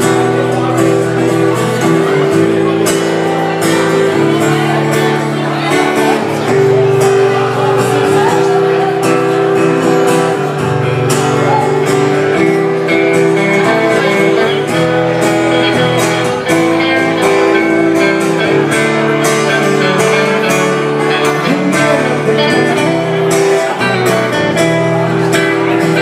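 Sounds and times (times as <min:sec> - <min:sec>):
electric guitar: 0:00.0 - 0:26.0
strummed acoustic guitar: 0:00.0 - 0:26.0.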